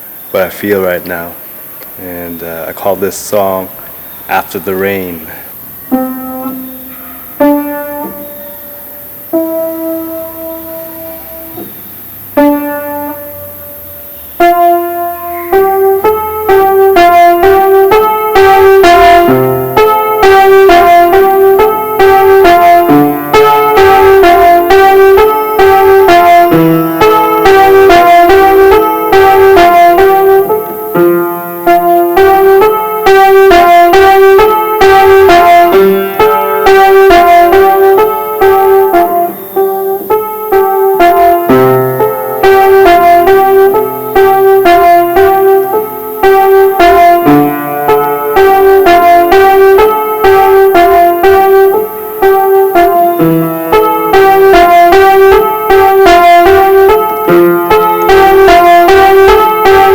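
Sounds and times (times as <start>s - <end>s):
solo piano melody: 0.0s - 59.9s.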